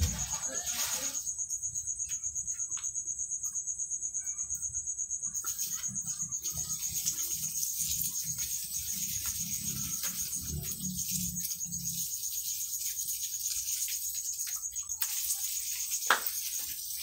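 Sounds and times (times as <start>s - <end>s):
insect trilling: 0.0s - 17.0s.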